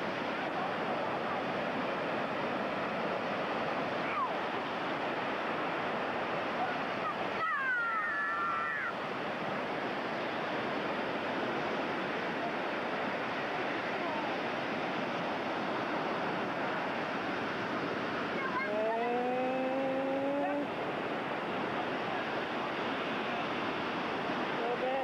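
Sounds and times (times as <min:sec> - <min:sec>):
ocean surf breaking: 0:00.0 - 0:25.0.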